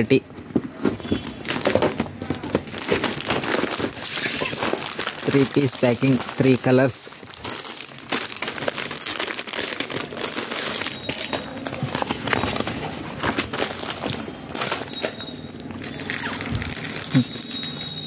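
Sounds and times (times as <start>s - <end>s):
plastic packaging crinkling: 0.3s - 18.0s.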